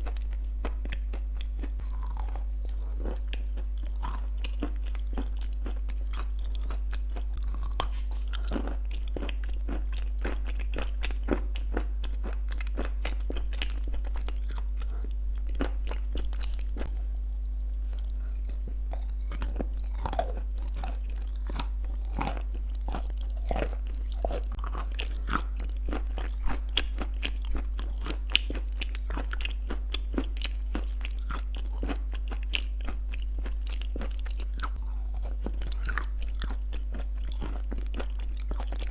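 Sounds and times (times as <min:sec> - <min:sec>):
crunchy chewing: 0:00.0 - 0:38.9
steady low hum: 0:00.0 - 0:38.9.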